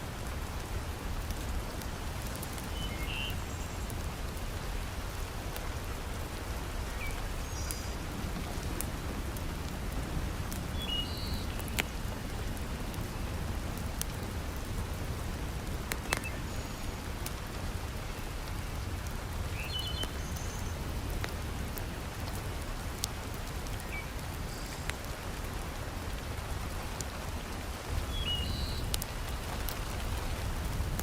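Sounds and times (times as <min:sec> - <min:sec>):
heavy rain falling: 0:00.0 - 0:31.0
wood fire crackling: 0:00.0 - 0:31.0.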